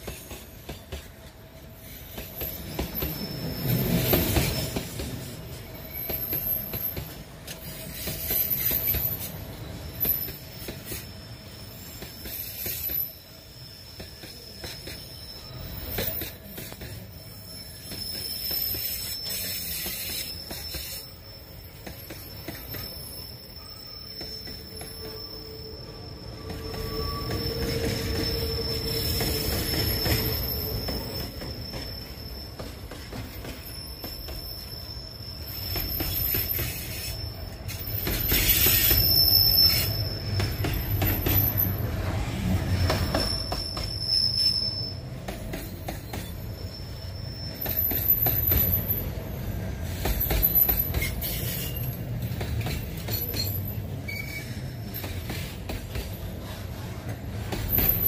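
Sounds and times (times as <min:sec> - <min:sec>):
rumble of wheels on rail: 0:00.0 - 0:58.0
steel wheels squealing: 0:00.0 - 0:58.0.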